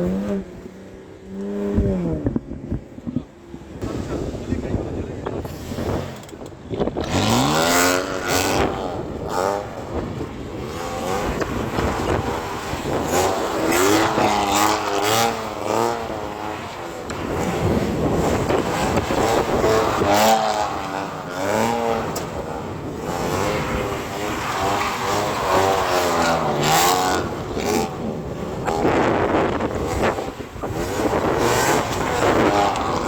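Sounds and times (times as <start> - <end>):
car engine revving hard: 5.4 - 33.0.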